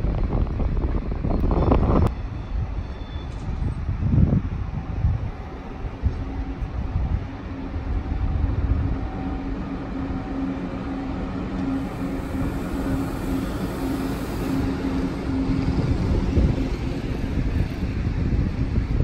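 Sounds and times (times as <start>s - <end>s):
train rumbling along rails: 0.0s - 19.0s.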